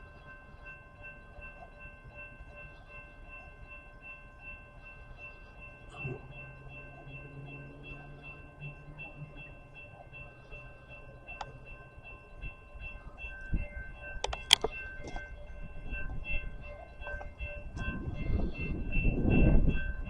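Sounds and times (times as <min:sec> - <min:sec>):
freight train rumble: 0:00.0 - 0:20.0
pulsing ringing: 0:00.0 - 0:20.0.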